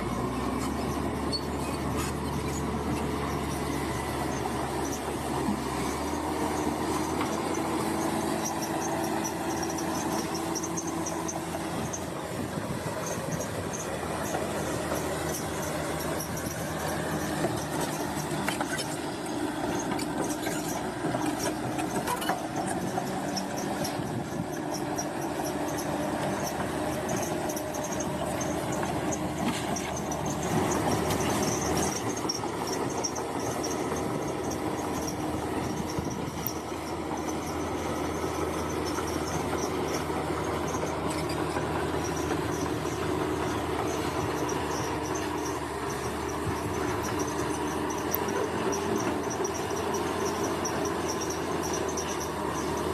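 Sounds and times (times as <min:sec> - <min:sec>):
bulldozer diesel engine: 0:00.0 - 0:52.9
steel tracks clanking and squealing: 0:00.0 - 0:52.9.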